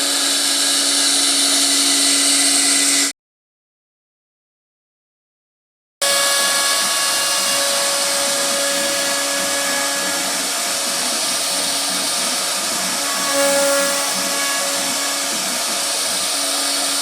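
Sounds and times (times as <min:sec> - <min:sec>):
router spindle whining: 0:00.0 - 0:03.1, 0:06.0 - 0:17.0.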